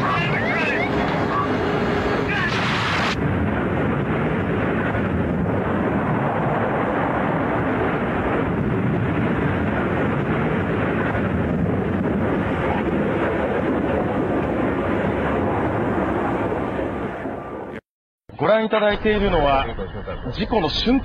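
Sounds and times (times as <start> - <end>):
airplane noise: 0.0 - 17.8.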